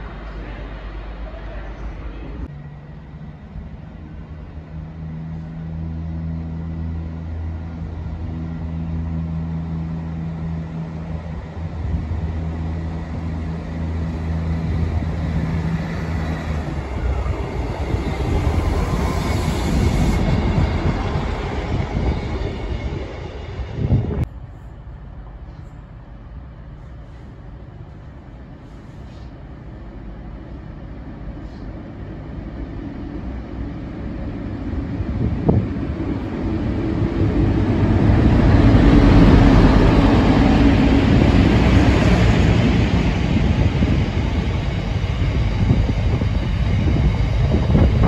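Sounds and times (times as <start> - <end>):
train engine drone: 0.0 - 48.0
train wheels rumbling on rails: 0.0 - 48.0.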